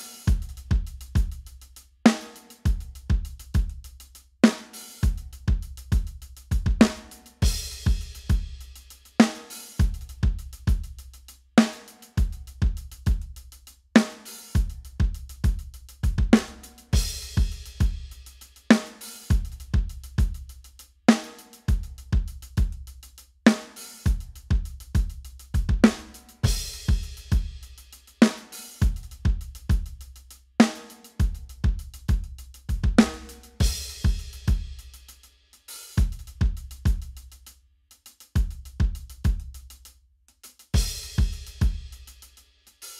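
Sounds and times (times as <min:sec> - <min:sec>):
drum kit beat: 0:00.0 - 0:42.9.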